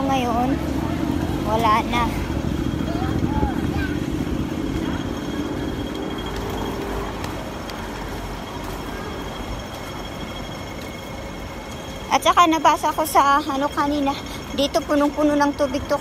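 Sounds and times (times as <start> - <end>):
city traffic noise: 0.0 - 16.0
tram rumbling on tracks: 0.0 - 16.0.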